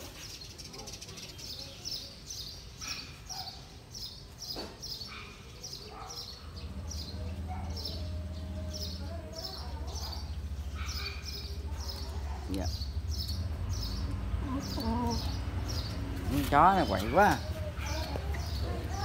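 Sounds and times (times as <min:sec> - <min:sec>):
small bird chirping: 0:00.0 - 0:19.0.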